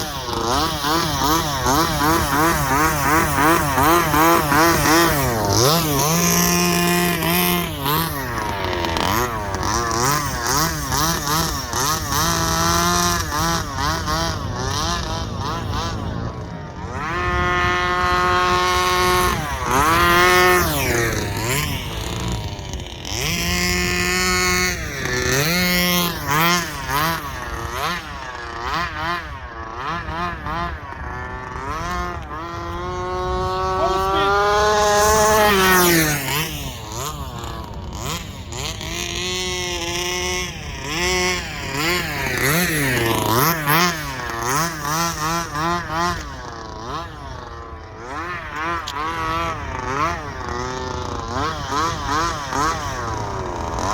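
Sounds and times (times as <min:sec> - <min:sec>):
rc car engine revving: 0:00.0 - 0:53.9.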